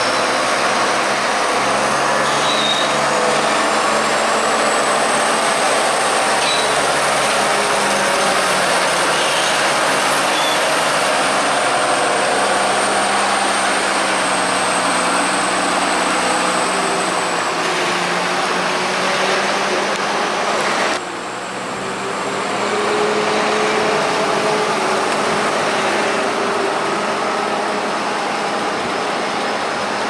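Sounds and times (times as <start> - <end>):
second tractor running: 0.0 - 30.0
tractor engine under load: 0.1 - 30.0.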